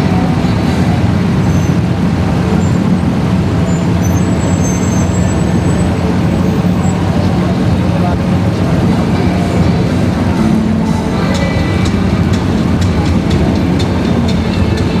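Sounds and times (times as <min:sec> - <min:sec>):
loud vehicle engine running: 0:00.0 - 0:15.0.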